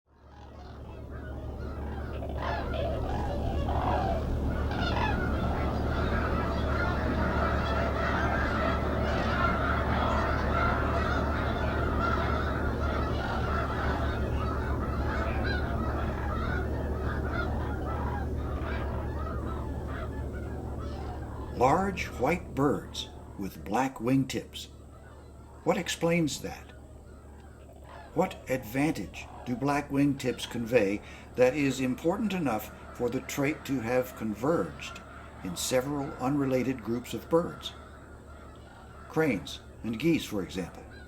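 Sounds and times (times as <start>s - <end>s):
geese honking: 0.1s - 41.0s
steady low hum: 0.1s - 41.0s.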